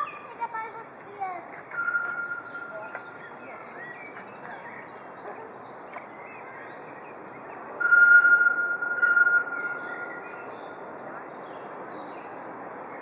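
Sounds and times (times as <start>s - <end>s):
songbirds chirping: 0.0s - 13.0s
steady background hiss: 0.0s - 13.0s.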